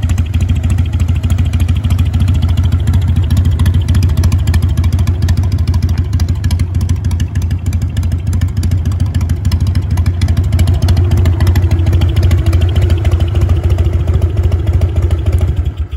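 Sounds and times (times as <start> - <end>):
motorcycle engine running steadily: 0.0 - 15.9.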